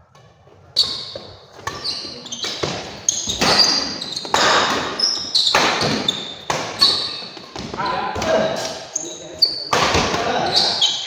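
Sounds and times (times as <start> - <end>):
shoes squeaking on court: 0.1 - 7.8, 8.6 - 9.7, 10.4 - 11.0
rackets hitting shuttlecock: 0.2 - 8.8, 9.7 - 10.8.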